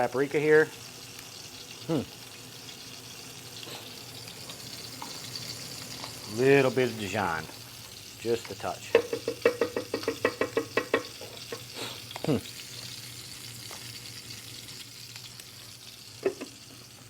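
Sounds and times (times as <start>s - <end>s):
meat sizzling in a hot pan: 0.0s - 17.0s.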